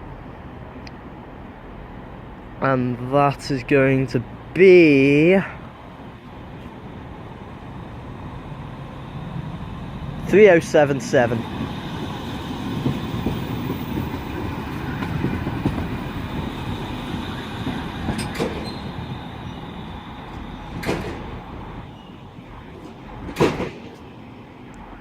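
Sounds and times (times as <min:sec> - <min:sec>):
tram wheels on rail: 0:00.0 - 0:25.0.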